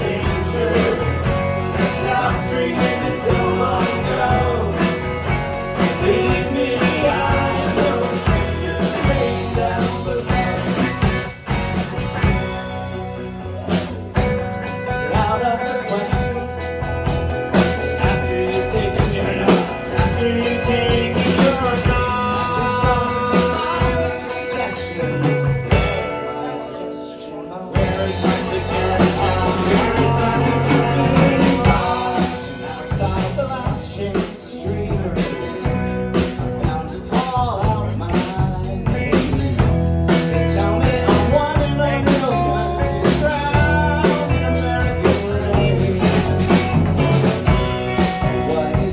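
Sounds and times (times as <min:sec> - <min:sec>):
rock band playing live: 0:00.0 - 0:48.9.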